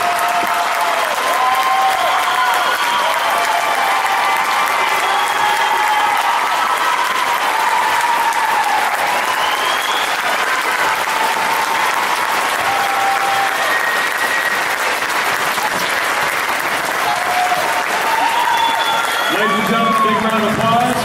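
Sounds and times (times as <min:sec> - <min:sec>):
audience applauding: 0:00.0 - 0:21.0
voices cheering: 0:00.0 - 0:21.0.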